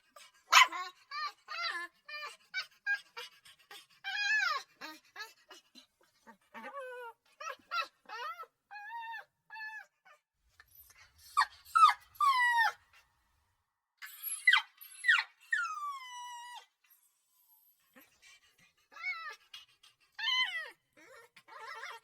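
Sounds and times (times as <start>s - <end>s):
puppy whimpering and crying: 0.4s - 12.9s, 14.0s - 22.0s.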